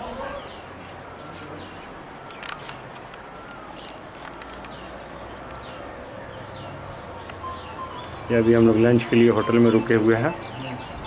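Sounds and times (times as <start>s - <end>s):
outdoor background hiss: 0.0s - 11.0s
birds chirping: 0.3s - 11.0s.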